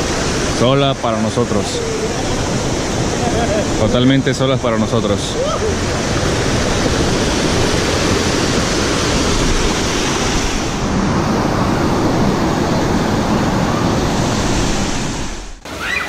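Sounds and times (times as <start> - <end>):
running spring water: 0.0 - 16.0.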